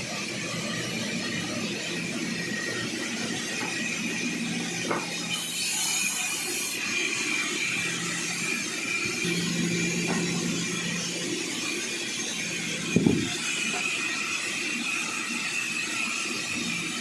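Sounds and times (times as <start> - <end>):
sawmill saw whining: 0.0 - 17.0.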